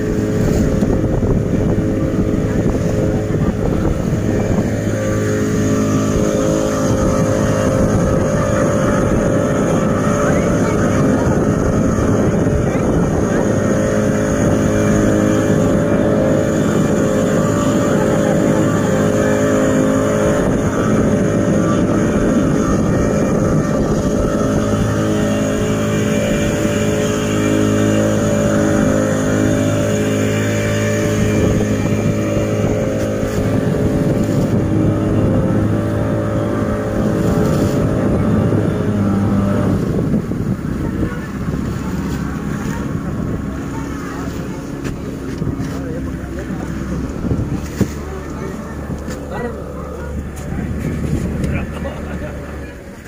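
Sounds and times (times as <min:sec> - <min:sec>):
boat engine running: 0:00.0 - 0:53.0
water churning: 0:00.0 - 0:53.0.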